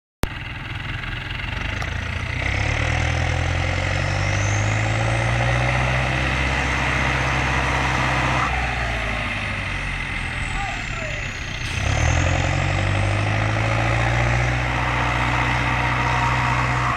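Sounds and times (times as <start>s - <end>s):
diesel tractor engine under load: 0.2s - 16.9s
car engine revving: 0.8s - 16.9s.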